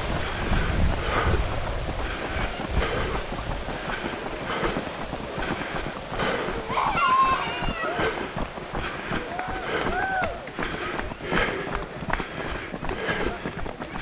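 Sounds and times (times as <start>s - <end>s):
footsteps on pavement: 0.0s - 14.0s
wind rumble on microphone: 0.0s - 14.0s.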